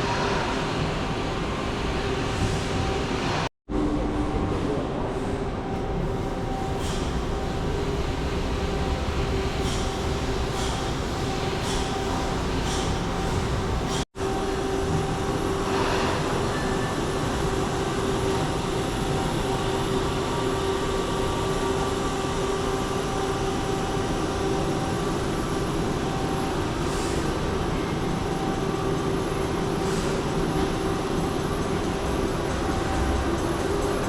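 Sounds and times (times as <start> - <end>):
constant hum: 0.0 - 34.0.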